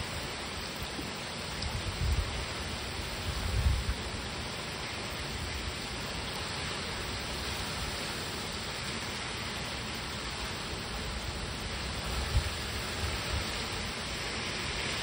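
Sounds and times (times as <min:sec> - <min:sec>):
heavy rain on lawn and leaves: 0:00.0 - 0:15.0.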